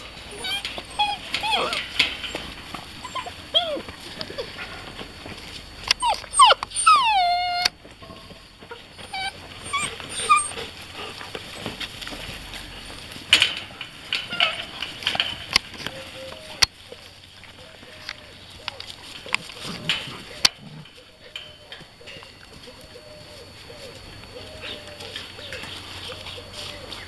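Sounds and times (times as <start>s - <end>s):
puppies whining and yelping: 0.0s - 7.8s, 8.6s - 12.4s, 13.4s - 17.1s, 18.4s - 27.0s.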